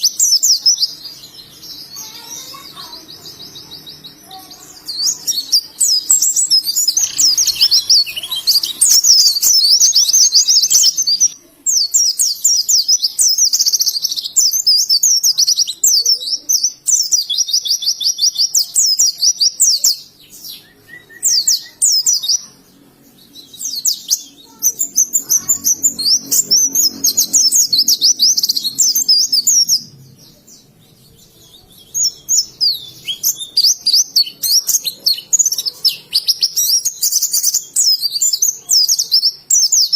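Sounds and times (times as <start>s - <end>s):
bird twittering: 0.0s - 22.6s, 23.2s - 39.9s.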